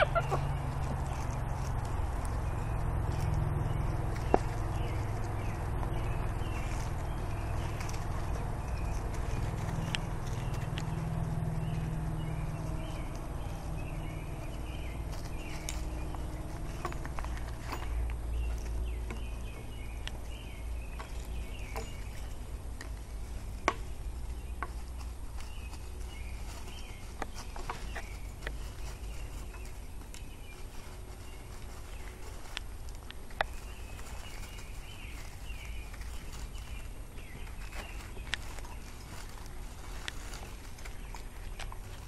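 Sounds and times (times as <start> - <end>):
low steady rumble: 0.0 - 42.0
puppy paws scuffling: 0.0 - 42.0.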